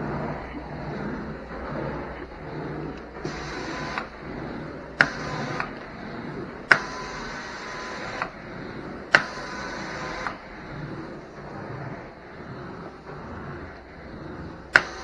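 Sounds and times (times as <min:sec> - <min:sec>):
carpet wand suction running: 0:00.0 - 0:15.0.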